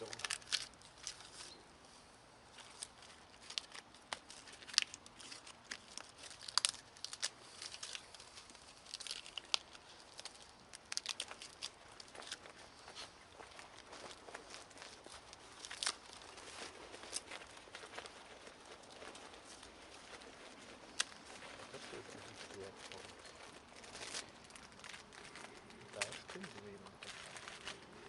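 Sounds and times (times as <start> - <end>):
kindling crackling and snapping: 0.0 - 1.7, 2.4 - 28.0.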